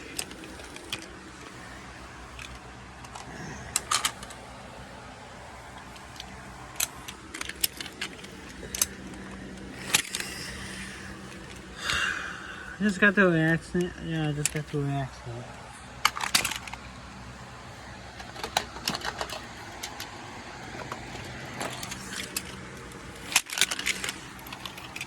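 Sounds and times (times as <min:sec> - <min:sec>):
sharp clicks and light rattles: 0:00.0 - 0:25.0.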